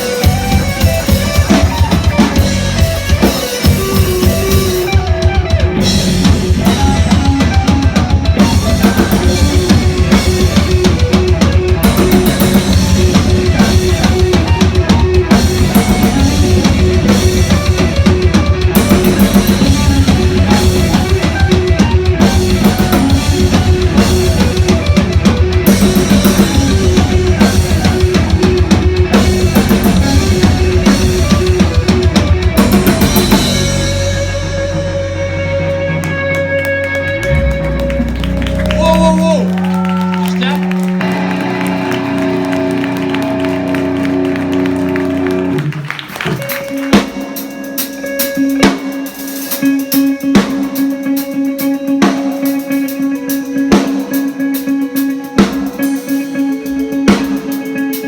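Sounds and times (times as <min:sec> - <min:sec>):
drum kit beating: 0:00.0 - 0:58.0
live rock band playing: 0:00.0 - 0:58.0.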